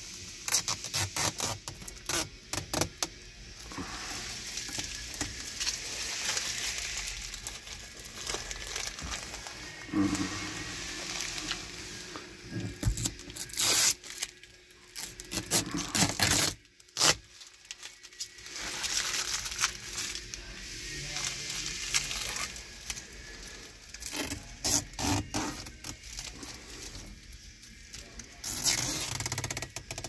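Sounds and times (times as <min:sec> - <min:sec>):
plastic film peeling and crinkling: 0:00.0 - 0:30.0.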